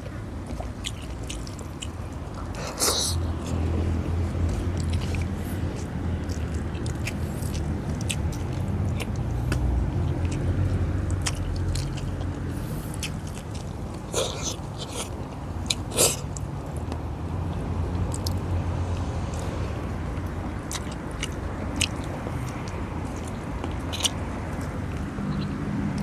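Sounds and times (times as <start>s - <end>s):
person chewing with mouth smacks: 0.0s - 17.0s, 17.9s - 26.0s.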